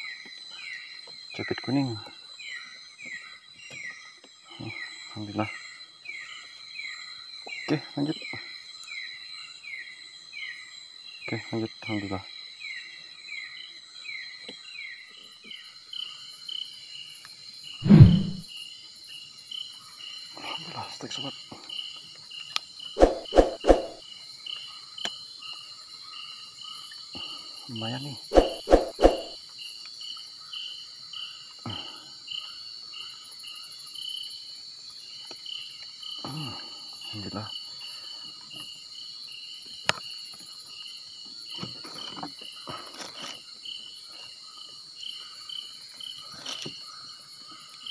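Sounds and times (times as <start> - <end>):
night insects chirping: 0.0 - 47.9.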